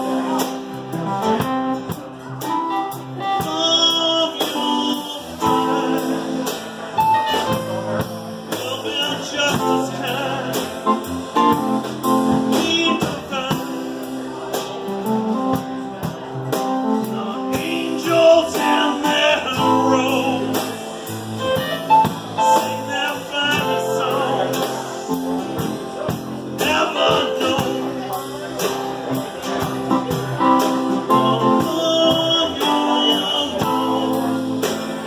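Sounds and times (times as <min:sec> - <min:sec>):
acoustic guitar: 0:00.0 - 0:35.0
drums: 0:00.0 - 0:35.0
keyboard: 0:00.0 - 0:35.0
person singing: 0:02.4 - 0:14.2, 0:16.8 - 0:28.6, 0:29.6 - 0:35.0.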